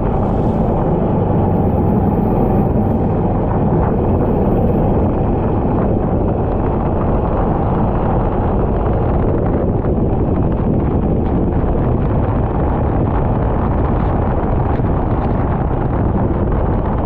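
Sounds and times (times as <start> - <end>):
wind buffeting on microphone: 0.0 - 17.0.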